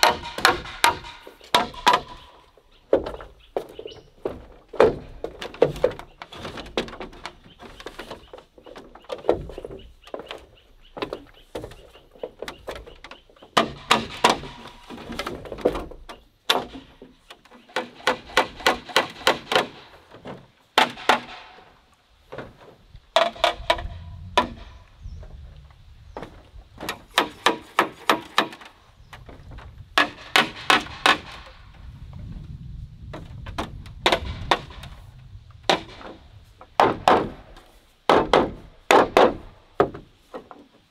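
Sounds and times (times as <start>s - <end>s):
bamboo poles knocked hard: 0.0s - 24.9s, 26.2s - 31.7s, 33.1s - 40.7s.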